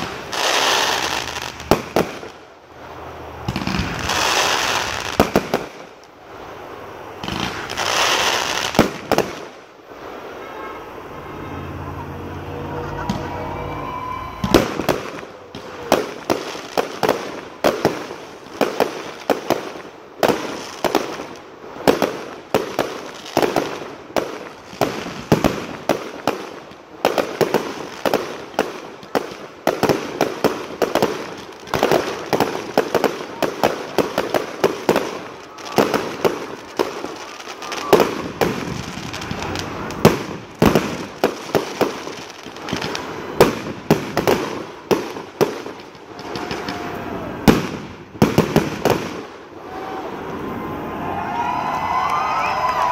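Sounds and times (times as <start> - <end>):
fireworks launching and bursting: 0.0 - 50.6.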